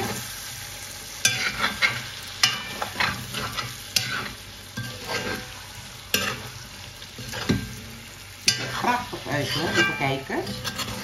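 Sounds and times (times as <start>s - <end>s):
food sizzling in oil: 0.0s - 11.0s
metal spatula scraping pan: 1.2s - 11.0s.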